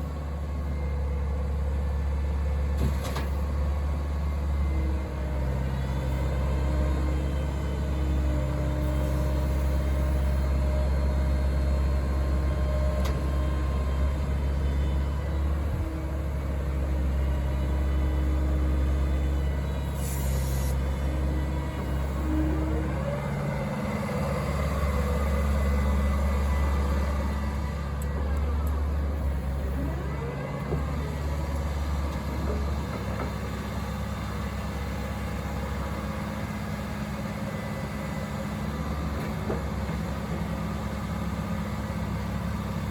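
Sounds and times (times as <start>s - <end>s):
excavator diesel engine humming: 0.0s - 42.9s.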